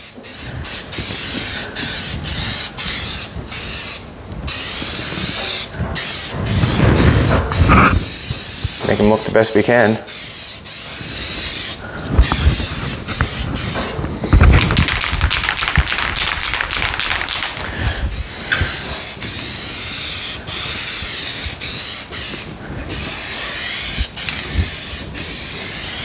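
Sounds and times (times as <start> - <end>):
aerosol spray can hissing: 0.0 - 9.3, 10.1 - 26.0.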